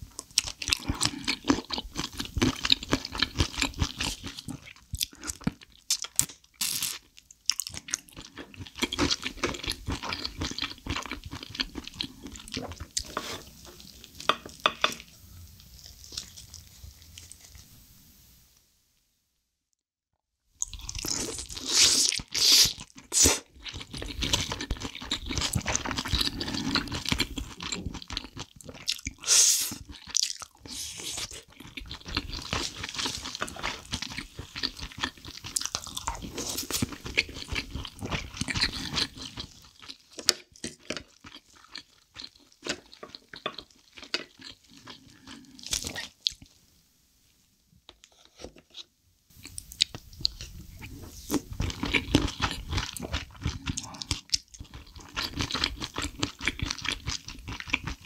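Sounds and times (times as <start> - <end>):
close chewing with crunchy bites: 0.0 - 17.7, 20.6 - 46.6, 48.0 - 58.0.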